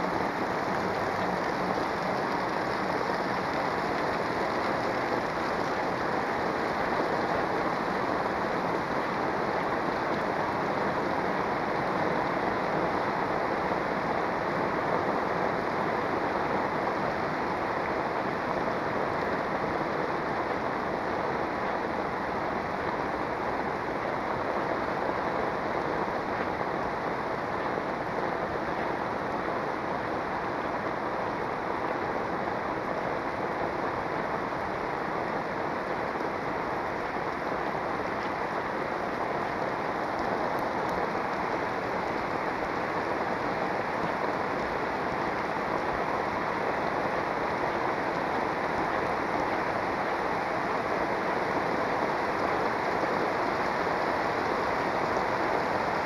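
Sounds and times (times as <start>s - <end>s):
heavy rain on pavement: 0.0s - 56.0s.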